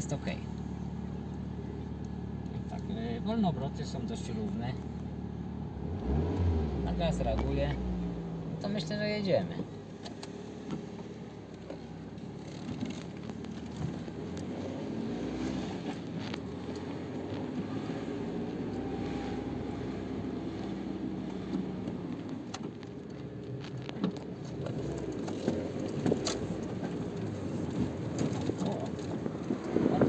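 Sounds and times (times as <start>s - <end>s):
car engine idling: 0.0s - 30.0s
road noise: 0.0s - 30.0s.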